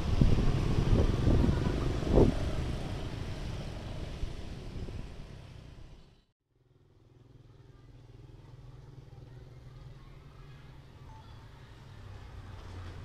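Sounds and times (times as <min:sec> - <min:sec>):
motorcycles and traffic rumbling: 0:00.0 - 0:13.0.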